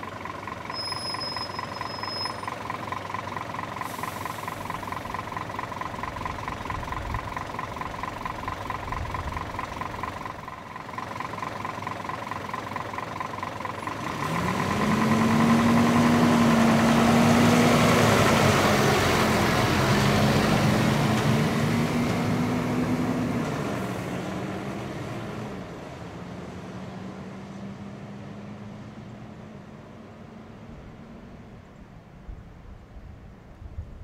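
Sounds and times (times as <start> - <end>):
diesel engine driving past: 0.0 - 33.9.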